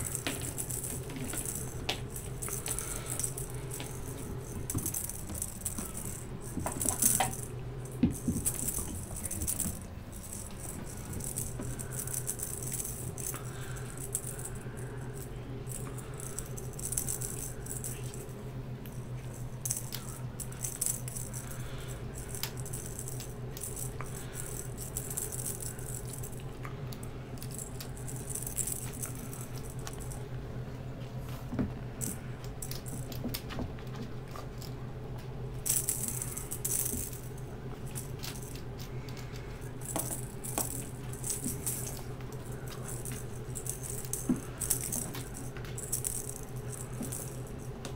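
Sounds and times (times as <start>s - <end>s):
cat toy rattling: 0.0s - 30.3s, 32.0s - 34.8s, 35.6s - 47.9s
steady low hum: 0.0s - 47.9s.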